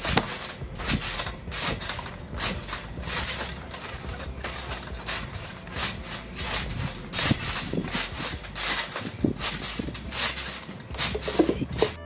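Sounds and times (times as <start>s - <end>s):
trampoline bounce thumps: 0.0s - 12.0s.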